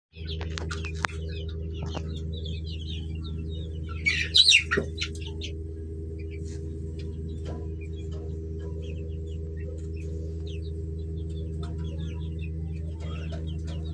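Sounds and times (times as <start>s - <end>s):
low hum: 0.1s - 13.9s
chickens chirping and squawking: 0.2s - 13.9s.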